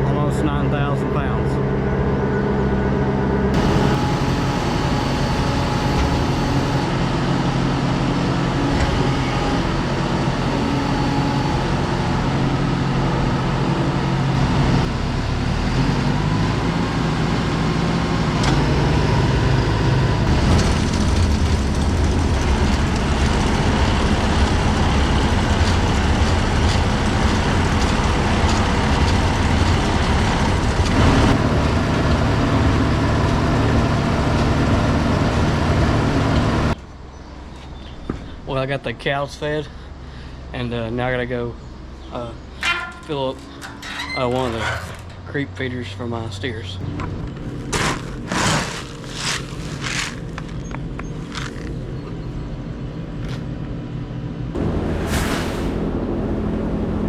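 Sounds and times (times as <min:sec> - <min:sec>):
tractor engine running: 0:02.0 - 0:37.1, 0:39.4 - 0:55.2.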